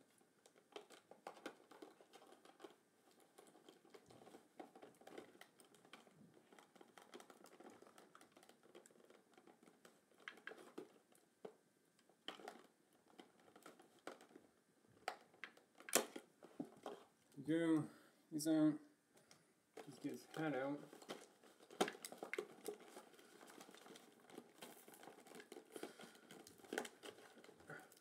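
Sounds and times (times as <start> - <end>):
plastic tray crinkling and clicking: 0.1 - 17.4, 19.2 - 28.0.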